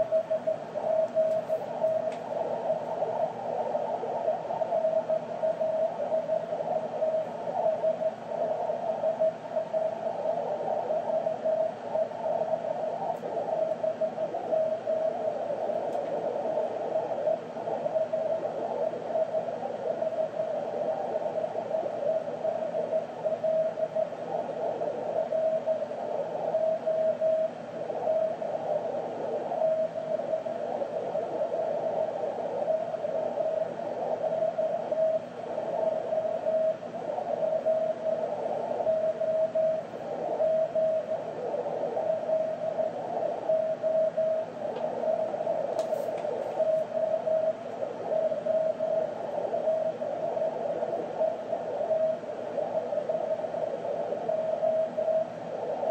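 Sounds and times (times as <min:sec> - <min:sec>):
receiver hiss: 0:00.0 - 0:55.9.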